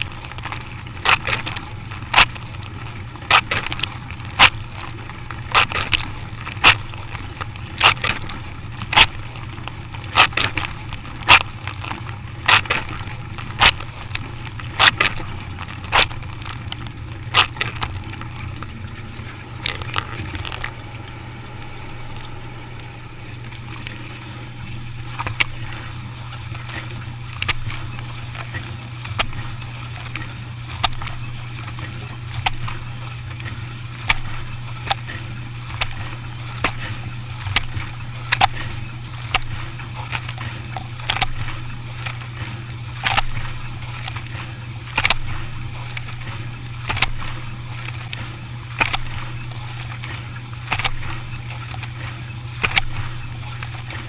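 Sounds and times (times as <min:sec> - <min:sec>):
dishwasher humming: 0:00.0 - 0:54.0.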